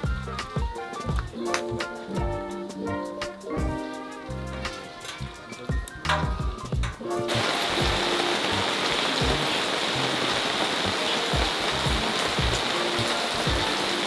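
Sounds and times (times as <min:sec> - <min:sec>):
background music with low beat: 0:00.0 - 0:08.3, 0:09.2 - 0:09.6, 0:11.4 - 0:14.0
heavy rain falling: 0:00.0 - 0:14.0.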